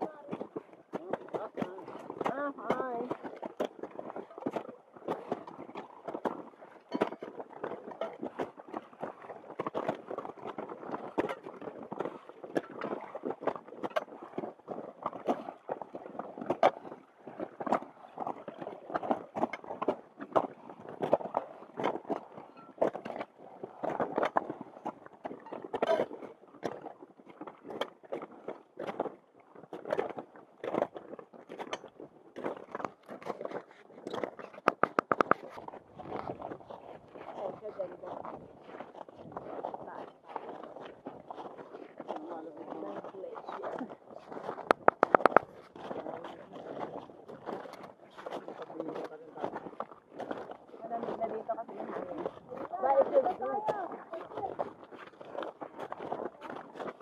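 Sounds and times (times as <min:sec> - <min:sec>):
footsteps crunching on ice: 0:00.0 - 0:57.0.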